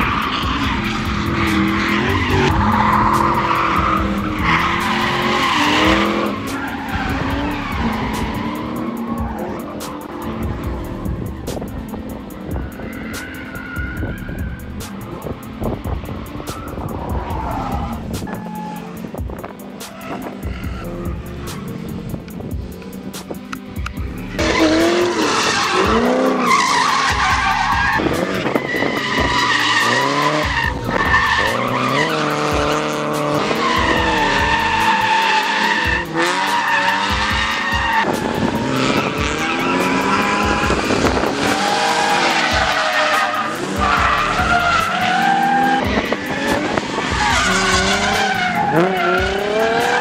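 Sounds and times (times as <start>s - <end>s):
tyres squealing: 0.0s - 10.4s, 12.6s - 14.9s, 16.3s - 19.2s, 23.9s - 50.0s
car engines revving: 0.0s - 50.0s.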